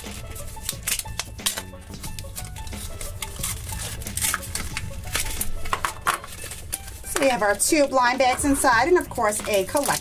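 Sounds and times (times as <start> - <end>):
foil bag crinkling: 0.0 - 8.1, 8.9 - 10.0
quiet background music: 0.0 - 10.0.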